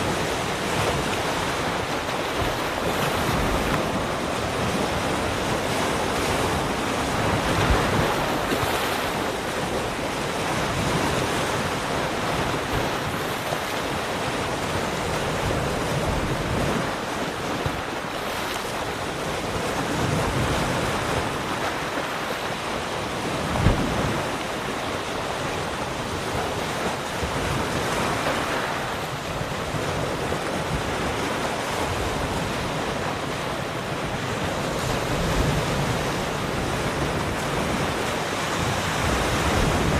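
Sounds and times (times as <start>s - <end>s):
ocean waves breaking on shore: 0.0s - 39.9s
wind on microphone: 0.0s - 39.9s.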